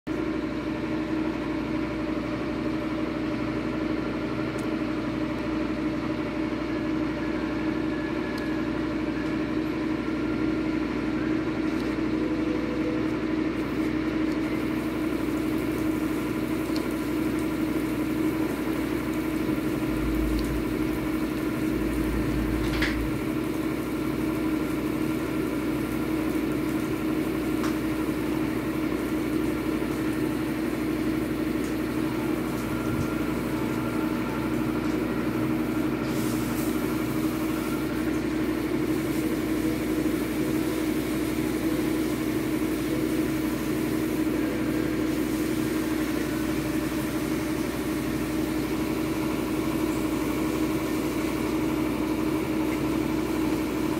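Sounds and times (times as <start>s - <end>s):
motor humming: 0.8s - 53.9s.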